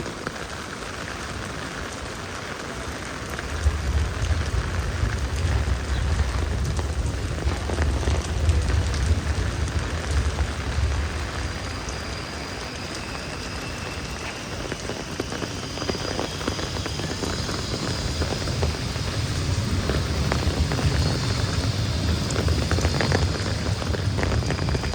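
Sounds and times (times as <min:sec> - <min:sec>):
heavy rain falling: 0:00.0 - 0:24.9
low rumble: 0:03.6 - 0:24.9.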